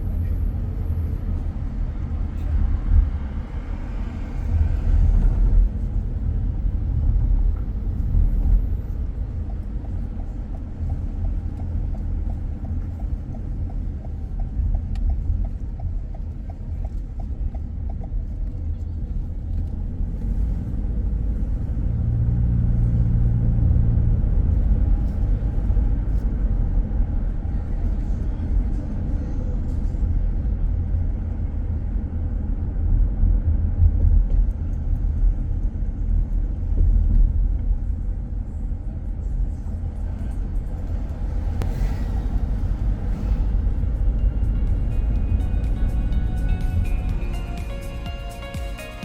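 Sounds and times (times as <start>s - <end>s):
road and engine rumble: 0.0s - 49.0s.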